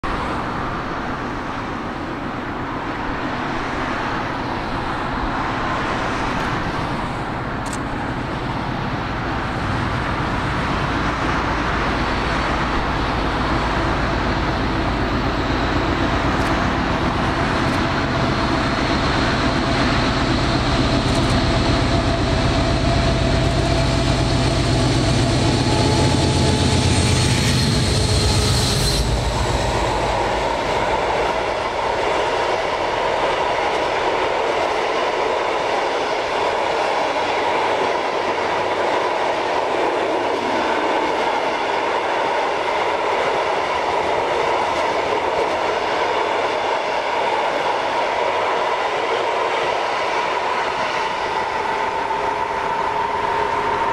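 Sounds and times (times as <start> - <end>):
diesel locomotive engines: 0.0 - 53.9.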